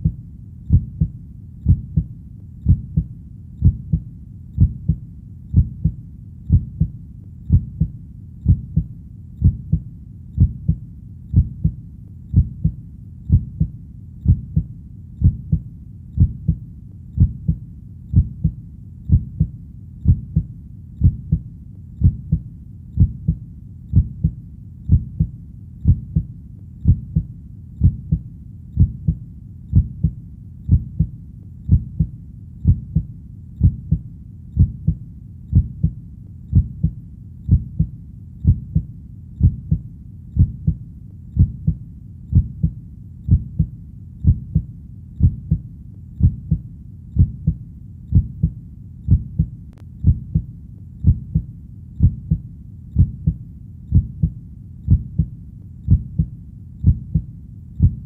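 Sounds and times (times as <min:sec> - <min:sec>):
heartbeat thumps: 0:00.0 - 0:58.0
low steady hum: 0:00.0 - 0:58.0.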